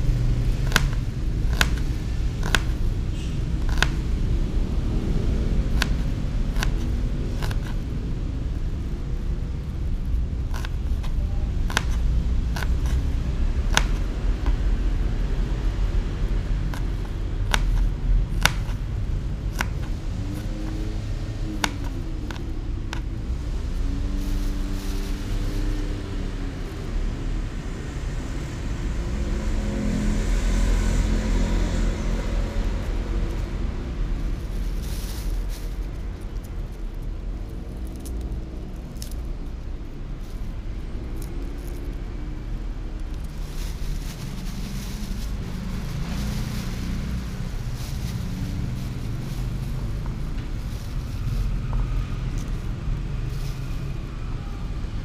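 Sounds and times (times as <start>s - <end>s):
passing vehicle engines: 0.0s - 55.0s
steady low rumble: 0.0s - 55.0s.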